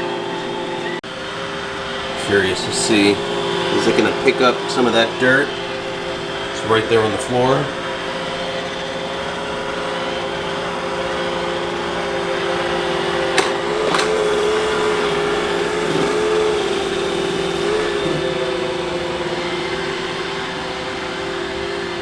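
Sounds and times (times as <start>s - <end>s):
robot vacuum motor whirring: 0.0s - 22.0s.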